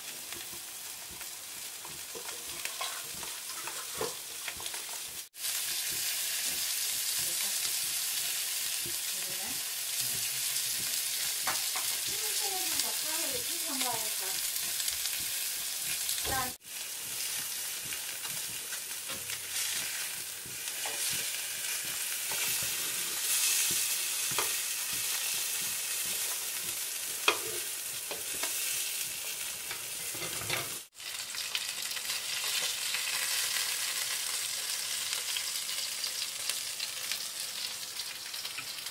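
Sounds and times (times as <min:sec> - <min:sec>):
fish sizzling in a pan: 0:00.0 - 0:38.9.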